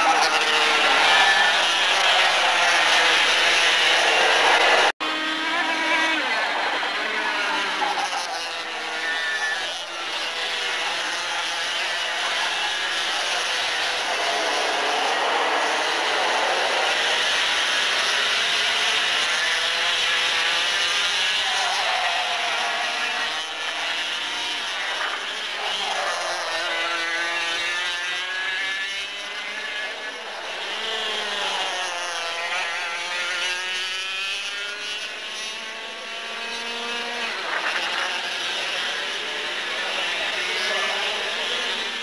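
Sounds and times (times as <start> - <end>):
racing kart engines buzzing: 0.0 - 42.0
single kart engine revving: 0.0 - 42.0.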